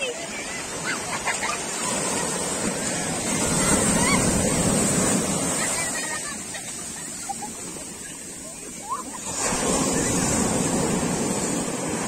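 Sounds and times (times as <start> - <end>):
sea waves washing on sand: 0.0 - 12.0.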